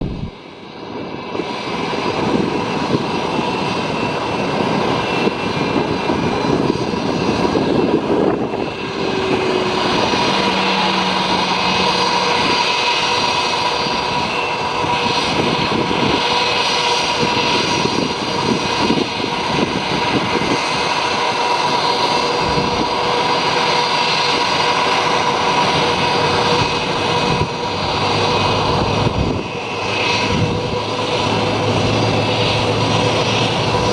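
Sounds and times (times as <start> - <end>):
jet engine whine: 0.0 - 33.9.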